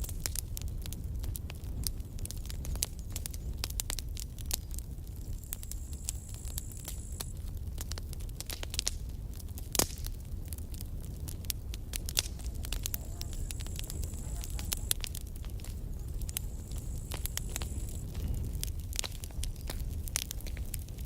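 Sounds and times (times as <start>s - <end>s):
campfire wood crackling: 0.0s - 21.0s.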